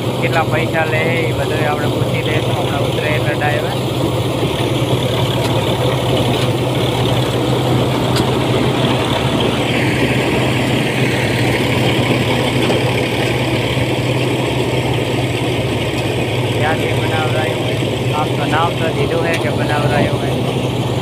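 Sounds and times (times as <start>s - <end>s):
harvester machinery whirring: 0.0s - 21.0s
tractor engine hum: 0.0s - 21.0s.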